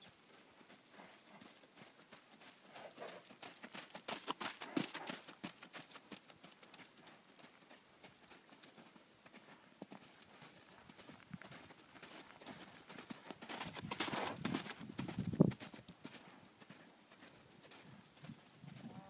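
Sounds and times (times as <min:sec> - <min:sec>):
pony hoofbeats on dirt: 0:00.0 - 0:19.0.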